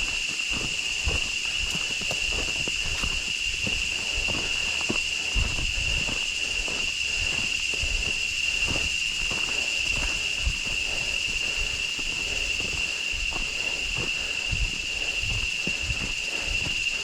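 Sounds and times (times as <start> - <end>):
footsteps on a trail: 0.0 - 17.0
insects droning: 0.0 - 17.0.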